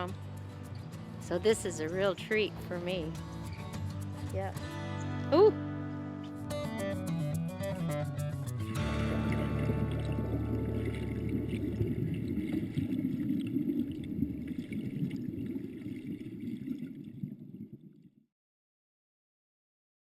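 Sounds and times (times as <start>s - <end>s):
river water flowing and gurgling: 0.0s - 5.2s, 5.9s - 18.0s.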